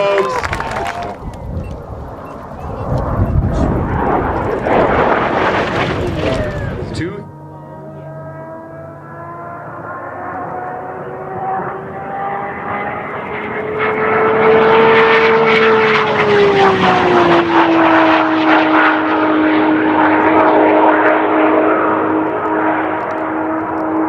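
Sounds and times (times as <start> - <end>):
car engine at high revs: 1.2 - 24.0.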